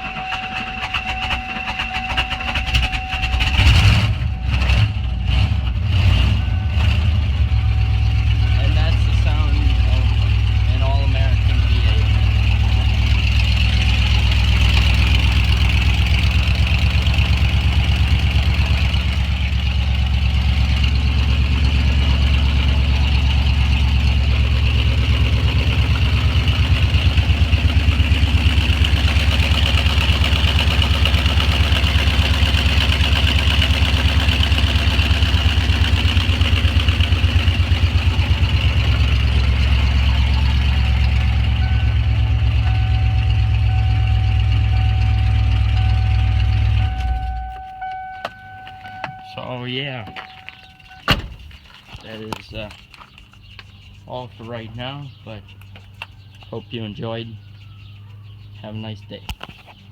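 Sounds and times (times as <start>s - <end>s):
car engine idling: 0.0s - 59.2s.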